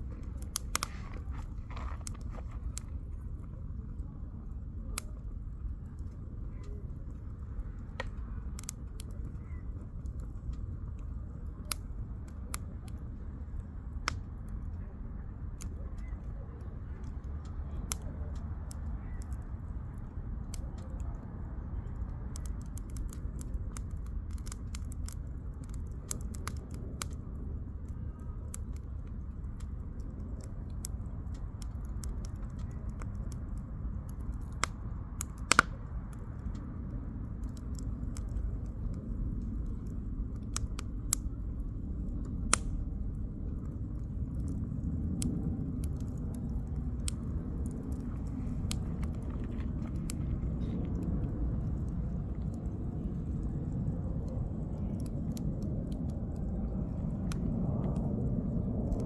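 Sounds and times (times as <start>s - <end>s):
campfire crackling and popping: 0.0s - 59.0s
low steady rumble: 0.0s - 59.0s.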